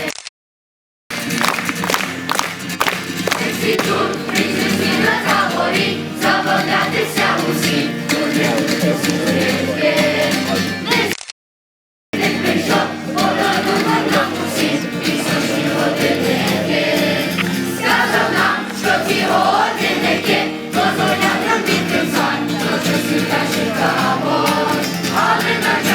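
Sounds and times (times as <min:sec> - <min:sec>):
group singing: 0:03.3 - 0:11.1, 0:12.2 - 0:25.9.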